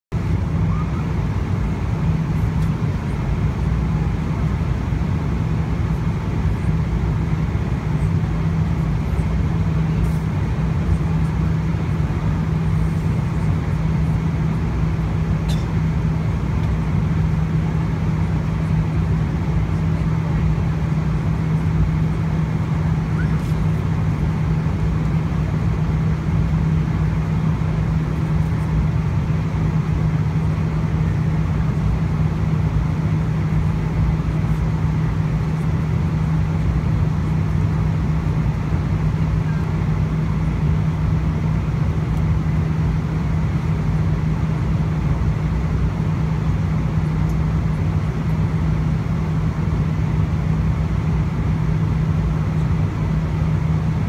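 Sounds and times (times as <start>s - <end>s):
airliner cabin roar: 0.1s - 54.0s
steady low hum: 0.1s - 54.0s.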